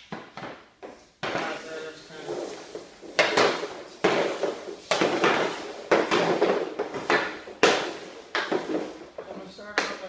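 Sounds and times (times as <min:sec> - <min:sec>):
hockey stick hitting puck: 0:00.0 - 0:10.0
pucks hitting backstop: 0:00.0 - 0:10.0.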